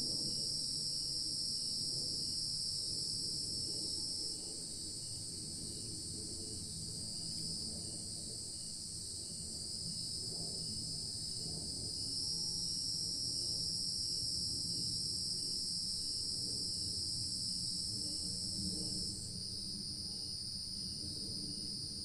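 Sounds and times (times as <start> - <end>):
insect chorus shrill buzz: 0.2 - 22.0.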